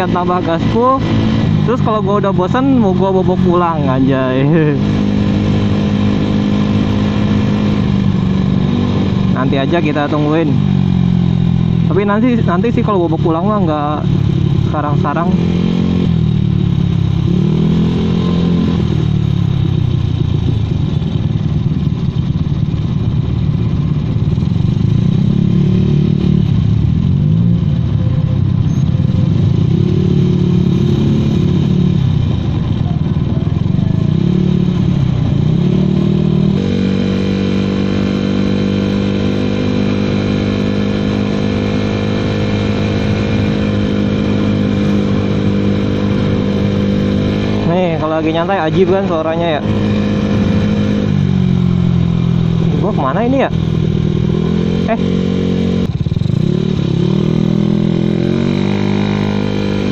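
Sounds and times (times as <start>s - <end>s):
scooter engine revving: 0.0s - 59.9s.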